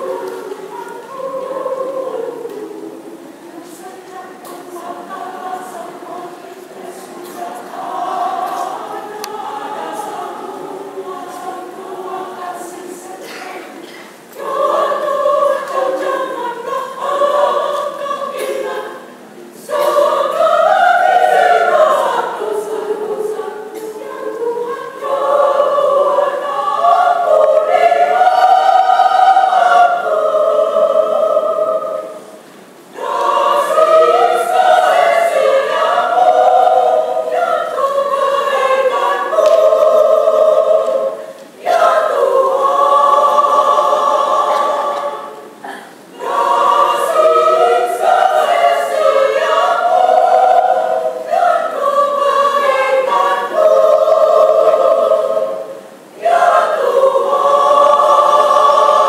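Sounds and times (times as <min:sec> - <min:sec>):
women's choir singing: 0:00.0 - 0:59.0.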